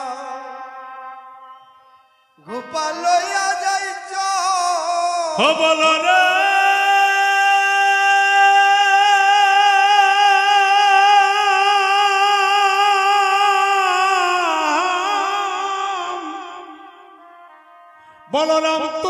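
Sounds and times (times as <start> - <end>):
man singing into microphone: 0.0 - 1.2, 2.4 - 17.5, 18.2 - 19.0.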